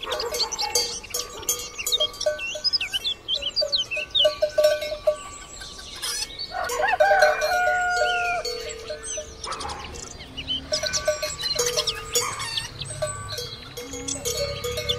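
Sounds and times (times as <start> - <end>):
birds chirping: 0.0 - 14.9
cow bells clanking: 0.0 - 14.9.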